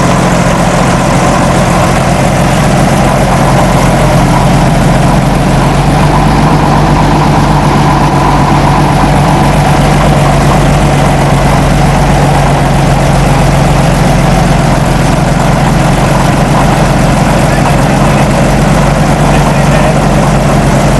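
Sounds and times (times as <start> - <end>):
heavy vehicle engine running: 0.0 - 20.9.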